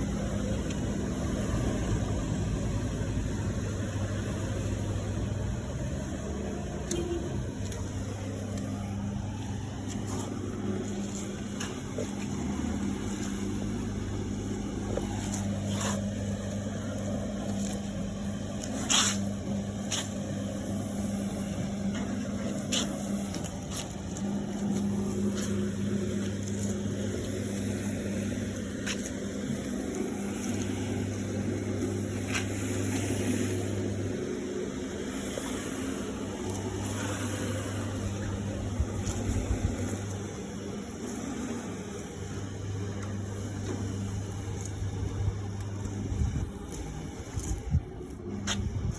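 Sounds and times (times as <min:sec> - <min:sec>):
carpet cleaner motor humming: 0:00.0 - 0:47.4.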